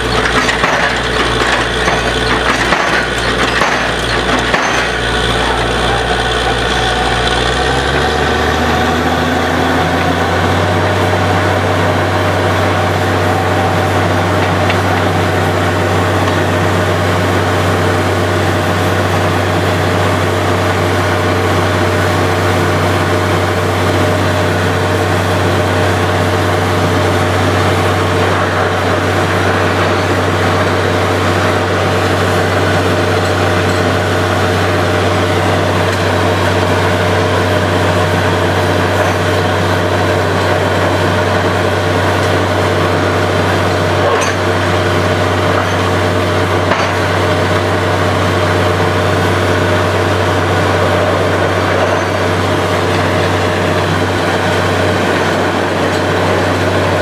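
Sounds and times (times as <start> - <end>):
drilling rig engine drone: 0.0 - 57.0.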